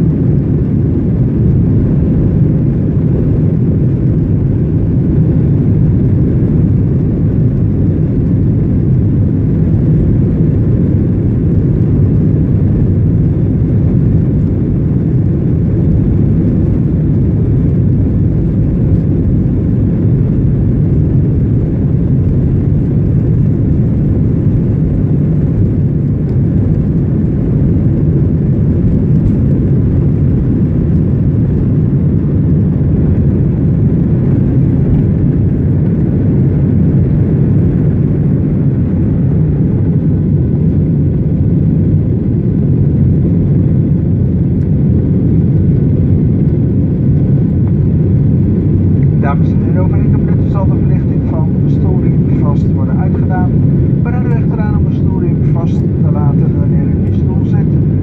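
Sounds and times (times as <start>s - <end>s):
jet engines roaring in cabin: 0.0s - 58.0s.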